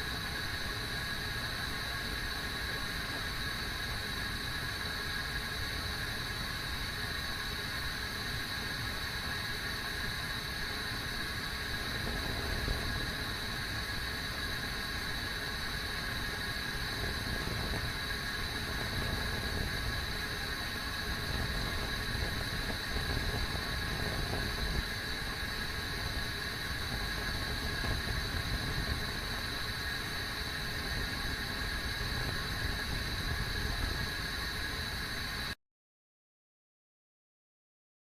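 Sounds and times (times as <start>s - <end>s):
kettle rumbling hiss: 0.0s - 35.6s.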